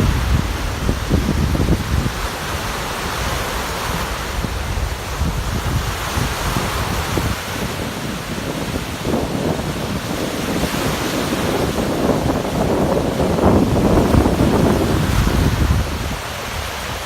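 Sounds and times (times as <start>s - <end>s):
waves breaking: 0.0s - 17.0s
wind buffeting microphone: 0.0s - 17.0s.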